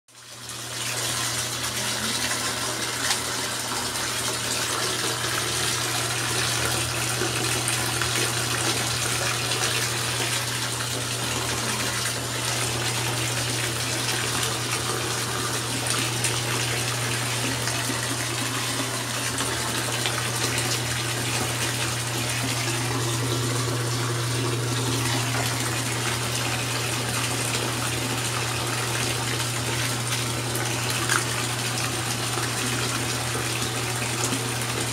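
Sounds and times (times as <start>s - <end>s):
pump motor hum: 0.1s - 34.9s.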